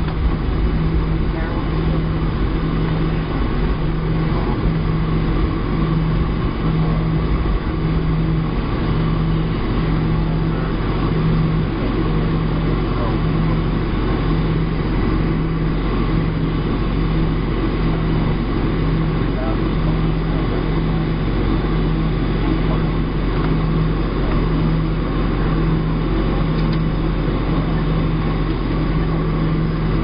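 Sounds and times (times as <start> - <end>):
jet cabin noise: 0.0 - 30.0
low engine hum: 0.0 - 30.0.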